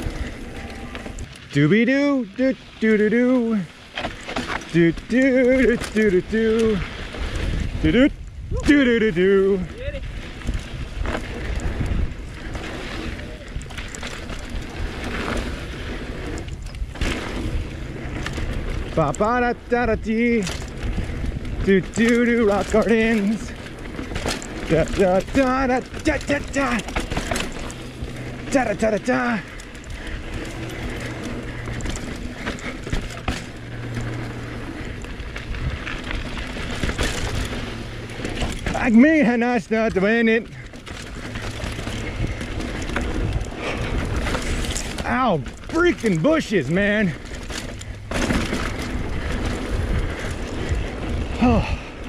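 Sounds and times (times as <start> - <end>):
bike rattling over bumps: 0.0 - 52.0
steady rumble: 0.0 - 52.0
steady rushing noise: 0.0 - 52.0
wind over microphone: 4.5 - 28.6, 29.2 - 38.9, 40.4 - 46.3, 47.1 - 52.0.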